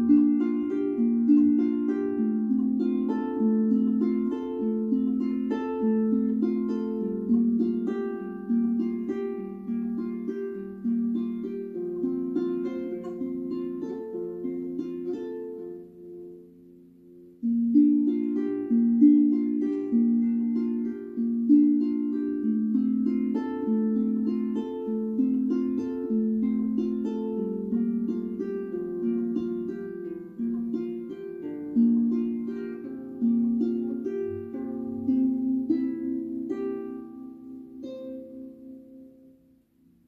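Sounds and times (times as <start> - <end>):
harp plucked notes: 0.0 - 40.0.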